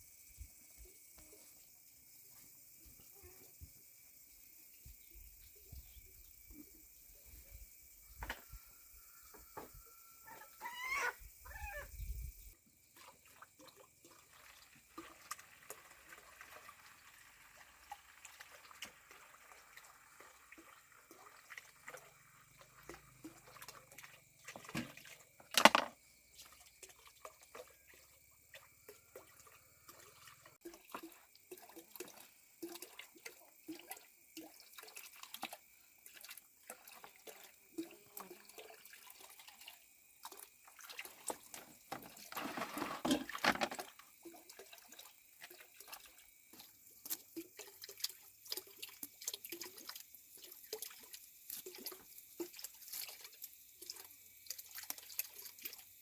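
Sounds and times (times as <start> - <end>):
faint water sounds: 0.0 - 56.0
small clicks and drips: 0.3 - 10.2, 12.4 - 56.0.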